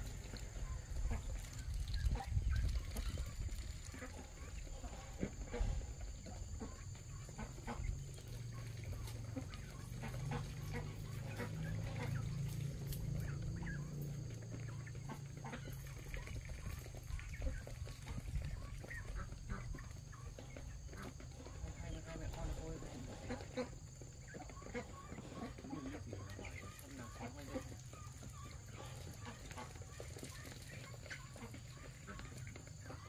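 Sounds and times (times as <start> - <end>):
chickens clucking: 0.0 - 33.0
low steady rumble: 0.0 - 33.0.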